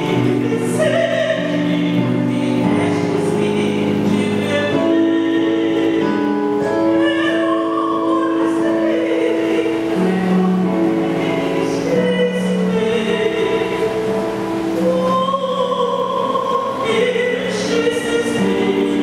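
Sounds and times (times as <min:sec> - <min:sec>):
keyboard accompaniment: 0:00.0 - 0:19.0
woman singing long notes: 0:00.0 - 0:19.0.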